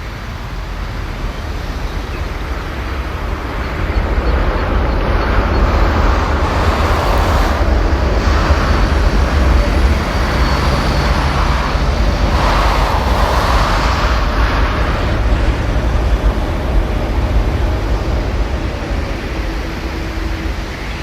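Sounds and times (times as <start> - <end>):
faint high whine: 0.0 - 17.0
jet engine rumble: 0.0 - 21.0.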